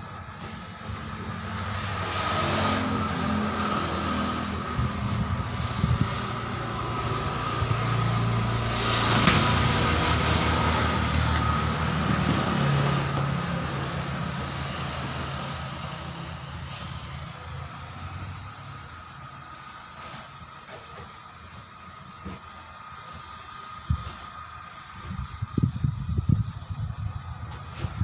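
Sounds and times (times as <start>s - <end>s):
passing traffic: 0.0s - 28.0s
vehicle engine running: 0.0s - 28.0s.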